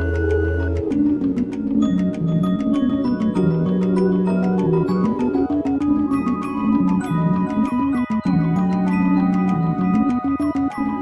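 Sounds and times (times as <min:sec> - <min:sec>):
low repeating bass line: 0:00.0 - 0:11.0
quick percussion ticks: 0:00.0 - 0:11.0
bell-like mallet melody: 0:01.4 - 0:11.0.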